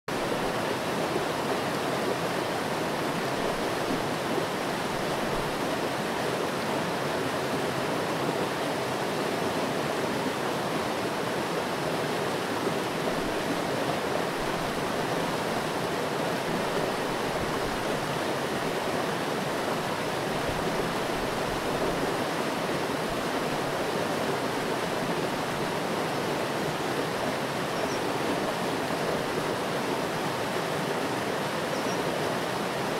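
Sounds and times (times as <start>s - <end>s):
stream water rushing over rocks: 0.1s - 32.9s.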